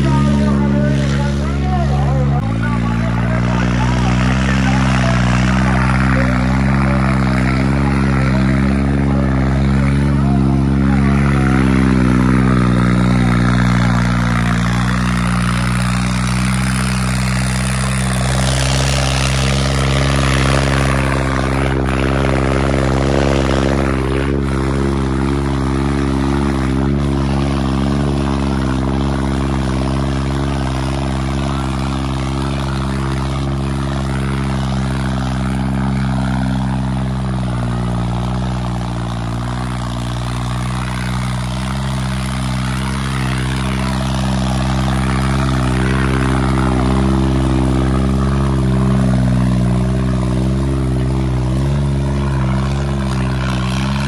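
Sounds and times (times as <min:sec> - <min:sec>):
tractor engine droning under load: 0:00.0 - 0:54.0.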